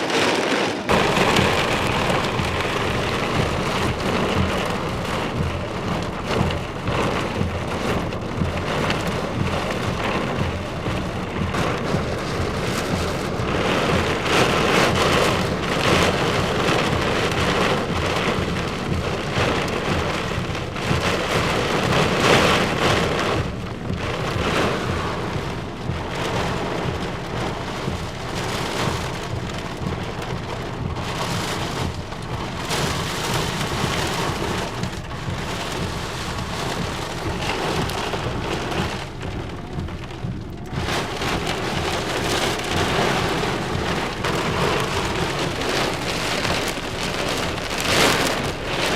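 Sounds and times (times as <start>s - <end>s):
torrential rain pouring: 0.0s - 48.9s.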